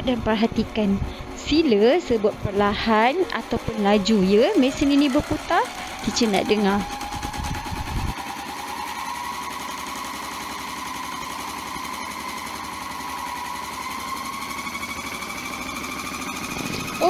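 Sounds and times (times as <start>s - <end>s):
washing machine drum spinning: 0.0s - 17.0s.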